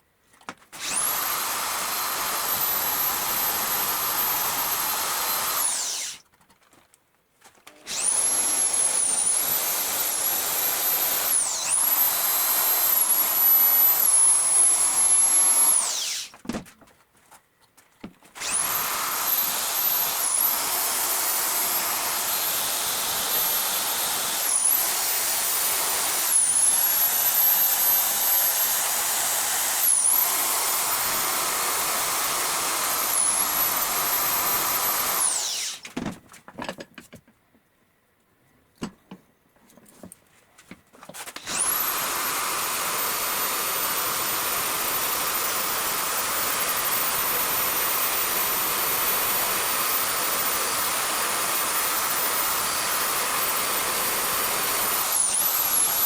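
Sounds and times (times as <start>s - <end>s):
electric grinder whining: 0.8s - 6.2s, 7.9s - 16.3s, 18.4s - 35.8s, 41.4s - 56.0s.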